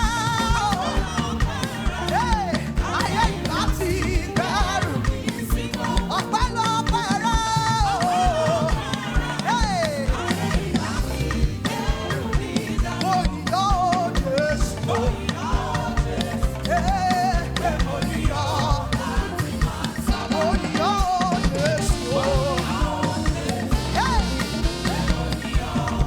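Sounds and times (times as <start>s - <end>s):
bass: 0.0s - 26.0s
drum kit beat: 0.0s - 26.0s
live band playing praise music: 0.0s - 26.0s.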